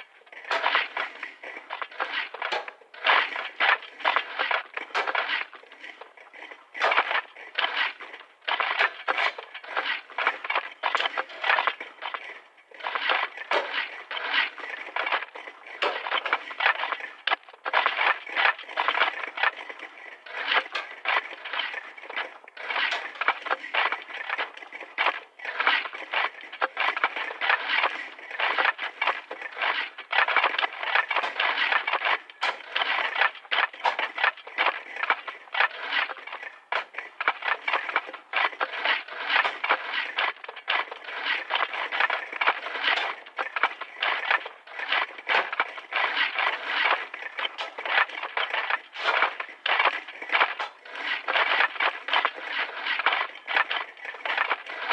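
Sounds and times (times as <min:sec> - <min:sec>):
shovels scraping into ground: 0:00.3 - 0:54.9.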